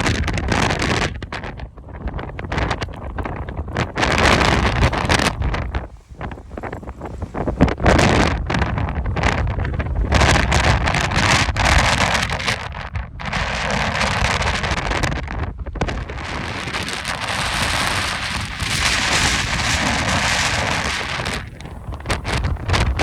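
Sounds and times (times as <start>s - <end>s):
gusty wind buffeting microphone: 0.0s - 23.0s.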